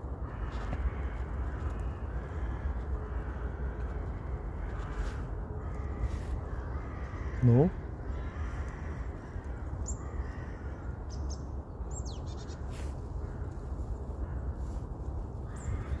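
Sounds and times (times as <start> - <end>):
tits calling: 0.2 - 16.0.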